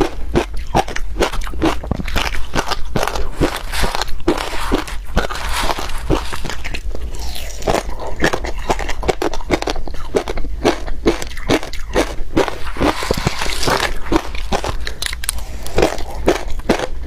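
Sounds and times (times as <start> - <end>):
ice being crunched and chewed: 0.0 - 17.0.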